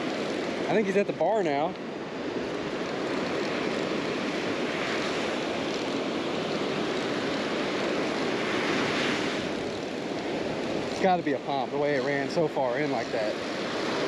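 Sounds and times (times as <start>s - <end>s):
surf breaking on beach: 0.0s - 14.0s
wind: 0.0s - 14.0s.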